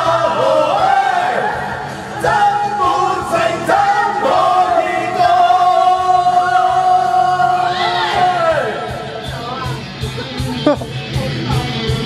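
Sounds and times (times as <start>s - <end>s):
person singing karaoke: 0.0s - 12.0s
pop backing track: 0.0s - 12.0s.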